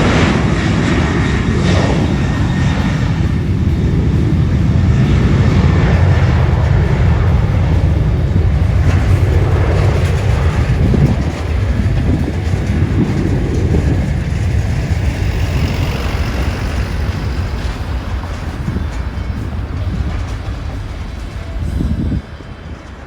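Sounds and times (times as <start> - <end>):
jet engine rumble: 0.0 - 23.0
wind buffeting microphone: 0.0 - 23.0.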